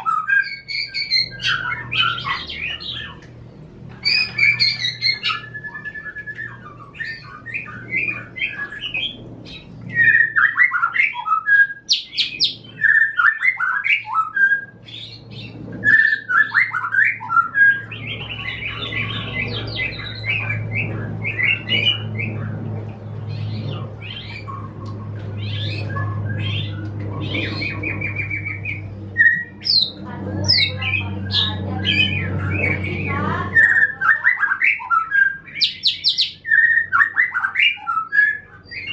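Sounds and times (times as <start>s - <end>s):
low steady hum: 0.0s - 38.9s
songbirds chirping and trilling: 0.0s - 38.9s.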